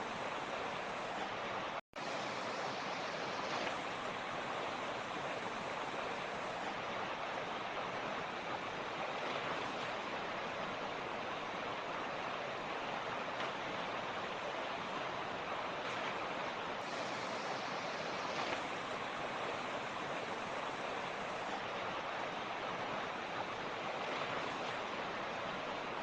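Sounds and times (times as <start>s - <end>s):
mountain torrent flowing: 0.0s - 26.0s.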